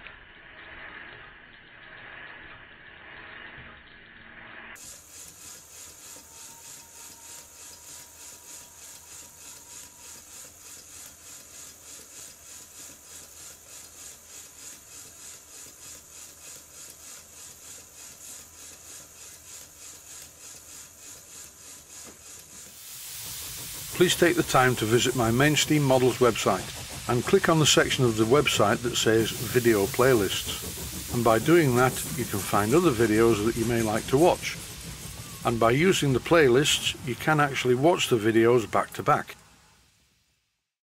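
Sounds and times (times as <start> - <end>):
beam engine exhaust hiss puffing: 4.8 - 40.3.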